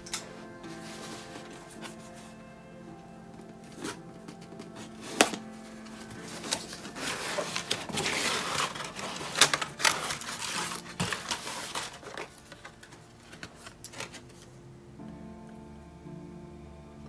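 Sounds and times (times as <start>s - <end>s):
tissue paper rustling: 0.0s - 14.5s.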